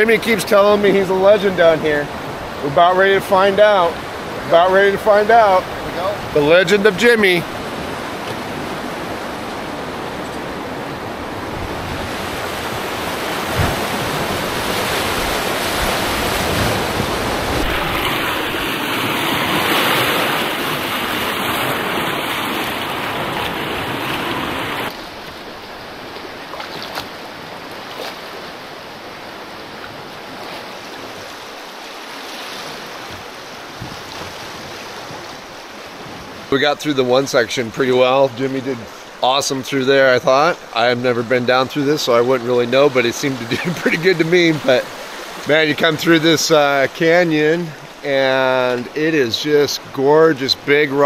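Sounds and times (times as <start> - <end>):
whitewater rushing: 0.0 - 51.0.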